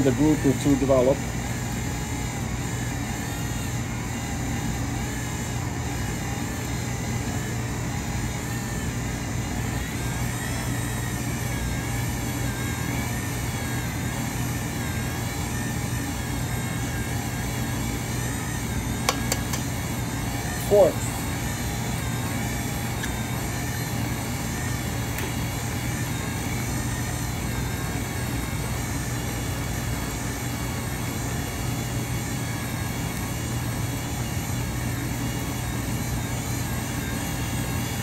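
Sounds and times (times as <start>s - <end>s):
stand mixer motor humming: 0.0s - 38.0s.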